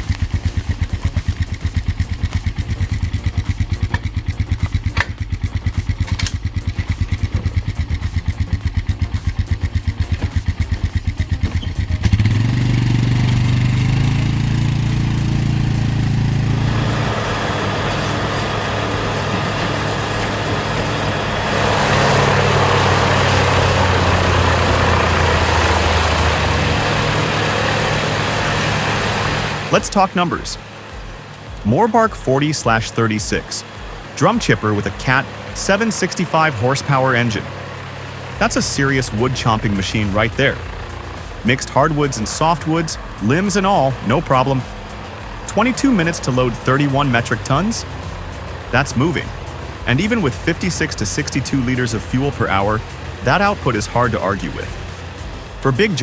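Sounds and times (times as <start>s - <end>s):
engine running with rapid pulse: 0.0s - 56.0s
louder engine: 0.0s - 56.0s
rushing grinding noise: 0.0s - 56.0s.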